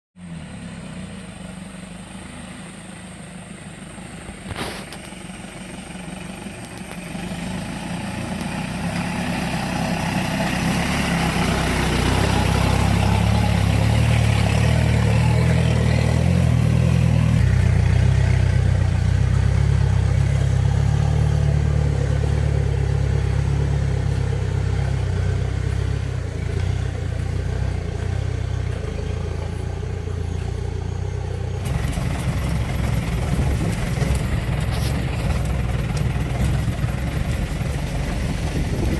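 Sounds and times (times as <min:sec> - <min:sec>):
engine running under load: 0:00.2 - 0:38.9.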